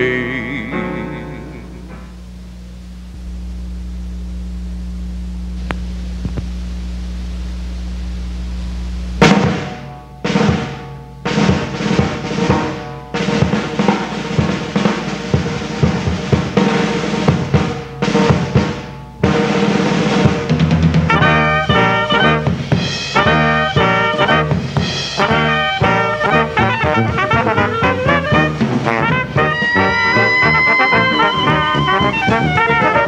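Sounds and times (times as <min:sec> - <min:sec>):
steady low hum: 0:00.0 - 0:33.0
snare and bass drums cadence: 0:01.9 - 0:33.0.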